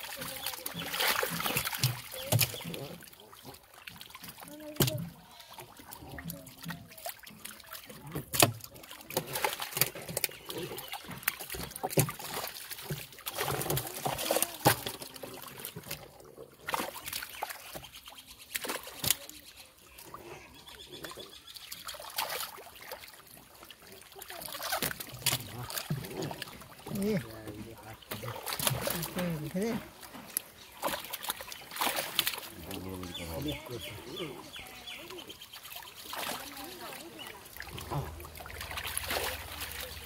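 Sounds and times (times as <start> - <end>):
catfish thrashing in water: 0.0 - 17.9, 21.8 - 34.7, 35.6 - 40.0
sharp splashes: 0.0 - 40.0
water splashing and trickling: 0.0 - 40.0.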